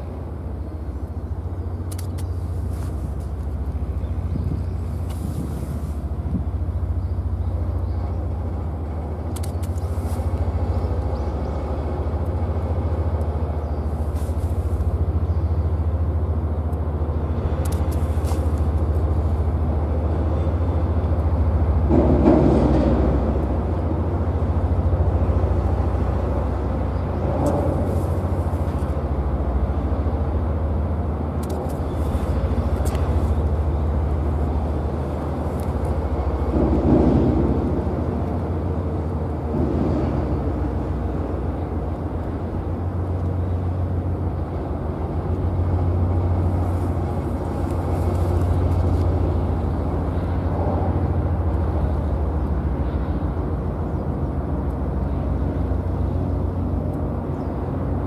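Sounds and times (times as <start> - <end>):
boat engines droning: 0.0 - 58.0.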